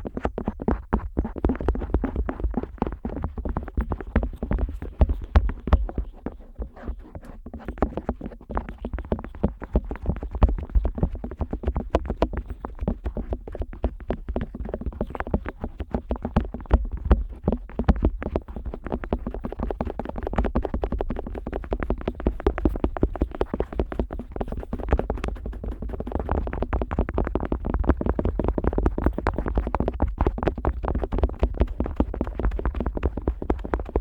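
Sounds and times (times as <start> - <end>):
otoscope tapping on microphone ear: 0.0 - 34.0.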